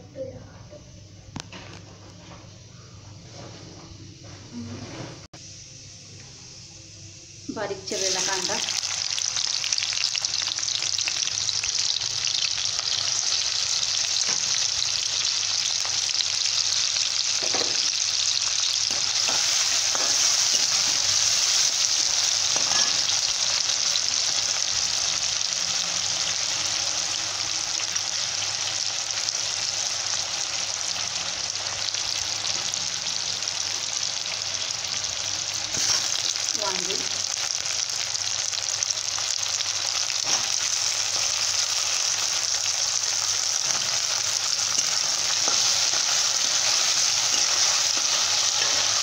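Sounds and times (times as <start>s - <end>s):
onion sizzling in oil: 5.4s - 49.0s.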